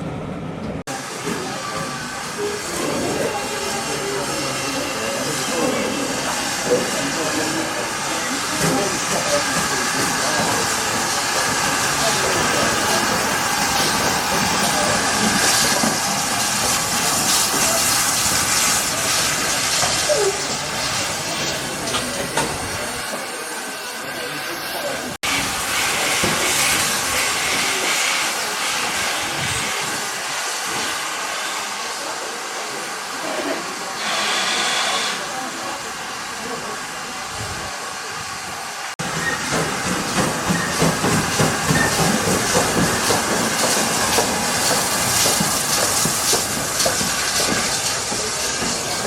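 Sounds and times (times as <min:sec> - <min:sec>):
train rumbling: 0:00.0 - 0:49.0
steam hissing: 0:00.9 - 0:49.0.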